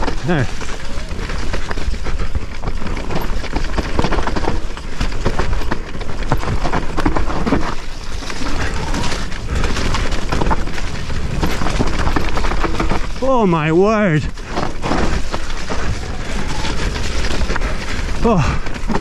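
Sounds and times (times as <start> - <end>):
bike rattling and knocking: 0.0 - 19.0
bike tyres rolling over dirt: 0.0 - 19.0.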